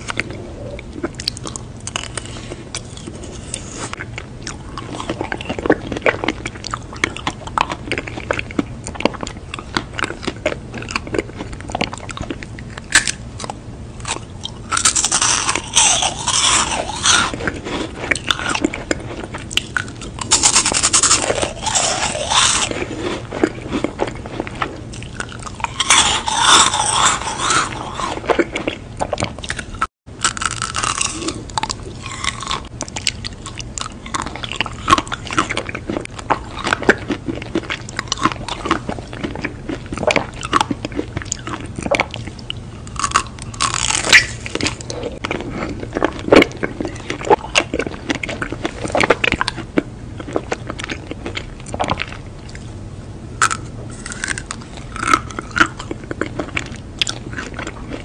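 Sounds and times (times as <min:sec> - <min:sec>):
crunching meringue cookies: 0:00.0 - 0:52.6, 0:53.4 - 0:58.0.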